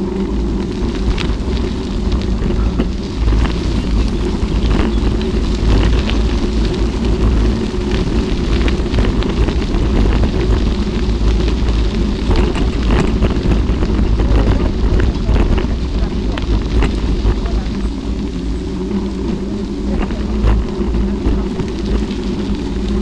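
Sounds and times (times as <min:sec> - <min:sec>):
bicycle tyres crackling on gravel: 0:00.0 - 0:23.0
wind buffeting microphone: 0:00.0 - 0:23.0.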